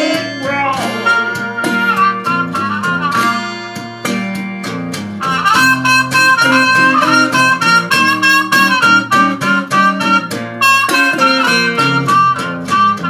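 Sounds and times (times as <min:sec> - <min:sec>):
trumpet bending held notes: 0:00.0 - 0:04.4, 0:05.2 - 0:13.0
acoustic guitar picking blues: 0:00.0 - 0:13.0.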